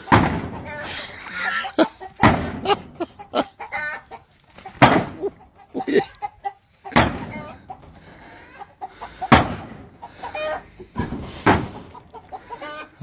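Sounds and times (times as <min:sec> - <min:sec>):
chicken squawking and clucking: 0:00.0 - 0:13.0.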